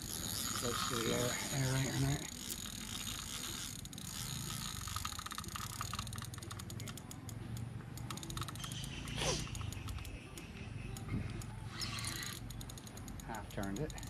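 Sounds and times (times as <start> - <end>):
fishing reel clicking: 0.0 - 14.0.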